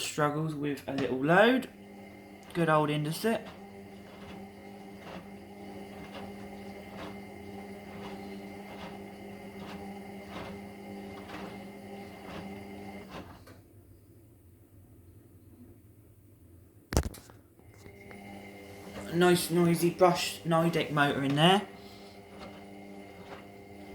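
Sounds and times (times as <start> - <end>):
washing machine motor hum: 0.0 - 13.8, 17.6 - 23.9.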